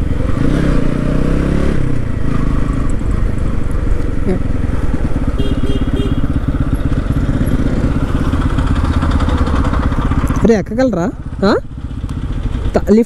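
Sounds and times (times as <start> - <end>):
motorcycle engine pulsing exhaust: 0.0 - 13.0.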